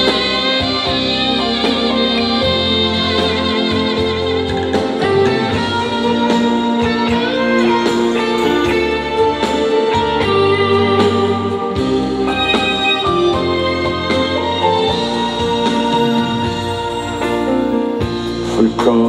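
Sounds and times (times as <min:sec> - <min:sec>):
lead guitar melody: 0:00.0 - 0:19.0
live band playing ballad: 0:00.0 - 0:19.0.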